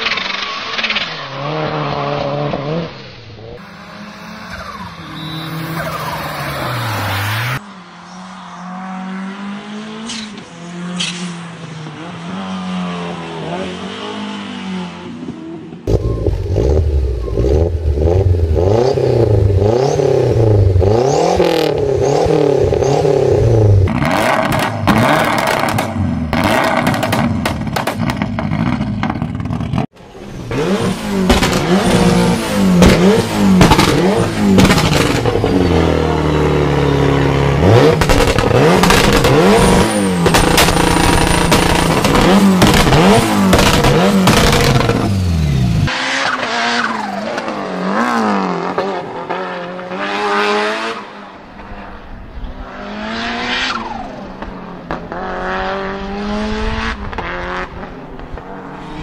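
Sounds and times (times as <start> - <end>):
race car accelerating: 3.6 - 27.5, 28.1 - 59.0.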